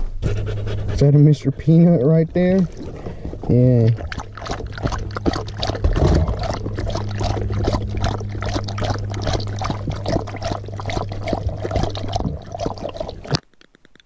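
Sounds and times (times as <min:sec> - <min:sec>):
steady low hum: 0:00.0 - 0:13.4
dog lapping water: 0:00.4 - 0:13.6.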